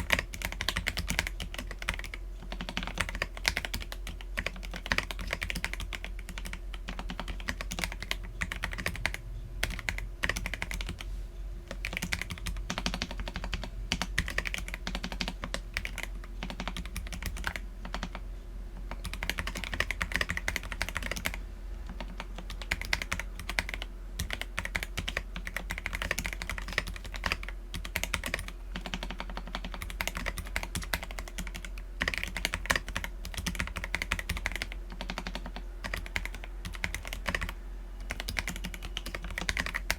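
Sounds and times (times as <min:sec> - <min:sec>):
mechanical keyboard typing: 0:00.0 - 0:11.0, 0:11.7 - 0:18.2, 0:18.9 - 0:39.9.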